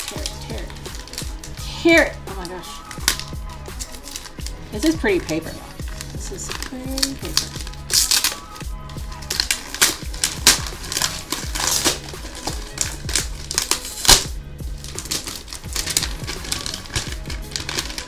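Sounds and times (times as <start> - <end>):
background music: 0.0 - 18.0
wrapping paper tearing and crinkling: 0.0 - 18.0.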